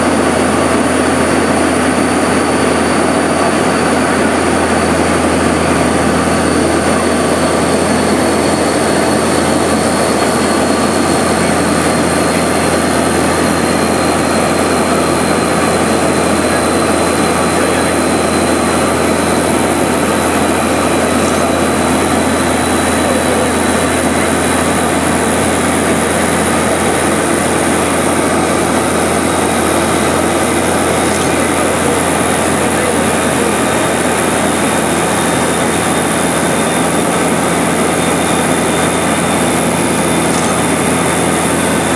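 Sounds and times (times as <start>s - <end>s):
propeller engines droning: 0.0s - 41.9s.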